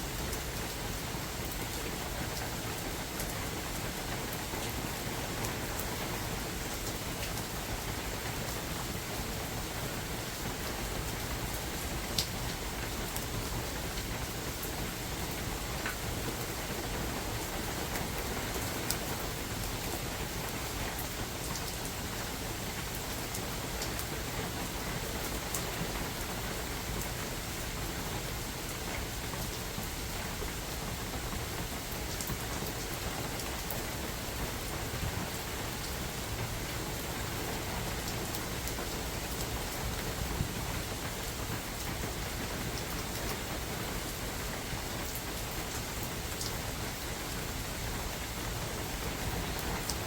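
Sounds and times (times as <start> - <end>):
rain hissing in forest: 0.0 - 50.0.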